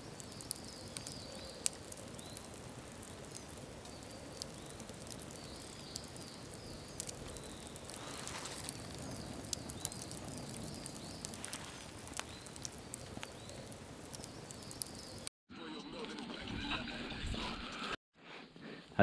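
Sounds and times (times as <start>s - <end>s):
campfire crackling: 0.0s - 15.3s
fire popping and snapping: 0.0s - 15.3s.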